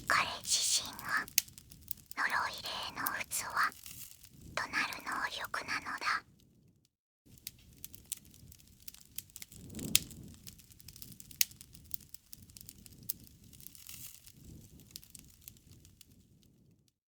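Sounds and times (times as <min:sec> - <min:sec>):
wood fire crackling: 0:00.0 - 0:06.2, 0:07.3 - 0:16.5.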